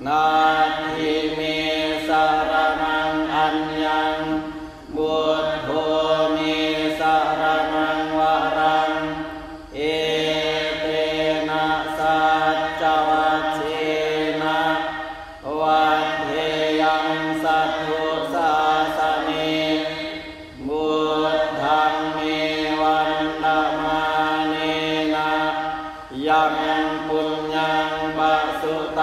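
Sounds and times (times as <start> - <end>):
group chanting: 0.0 - 29.0.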